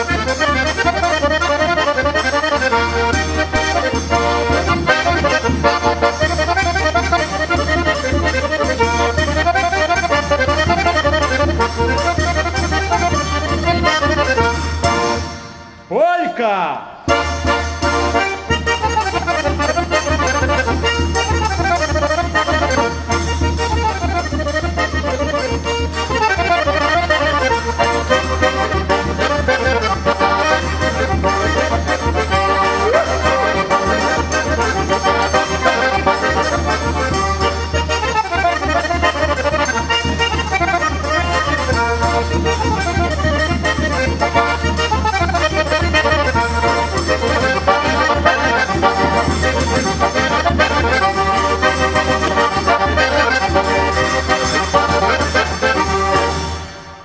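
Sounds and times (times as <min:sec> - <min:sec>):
button accordion folk tune: 0:00.0 - 0:57.0.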